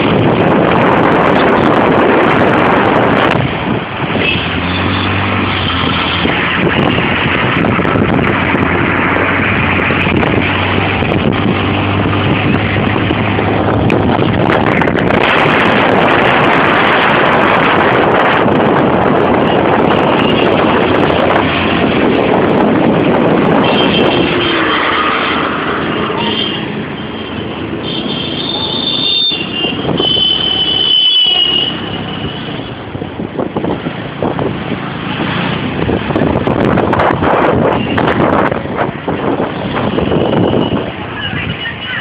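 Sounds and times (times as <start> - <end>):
road vehicle rushing: 0.0 - 42.0.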